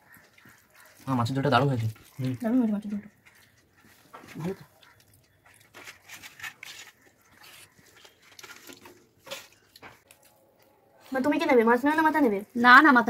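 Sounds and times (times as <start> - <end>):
chewing: 0.0 - 11.1
fingers mixing food on plate: 0.1 - 10.7.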